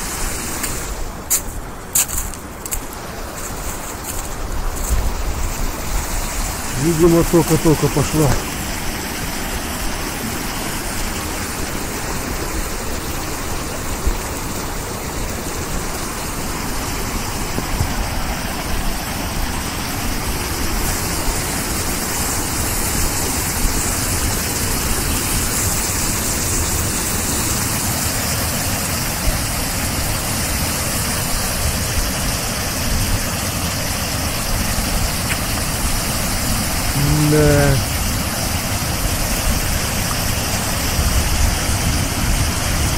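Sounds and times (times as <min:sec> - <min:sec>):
water rushing over ledges: 0:00.0 - 0:42.9.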